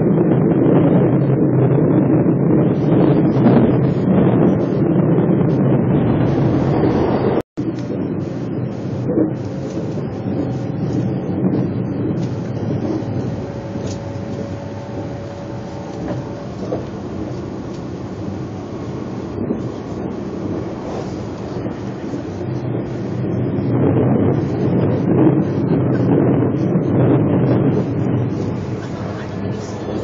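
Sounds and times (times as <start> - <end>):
train rumble from inside: 0.0 - 30.0.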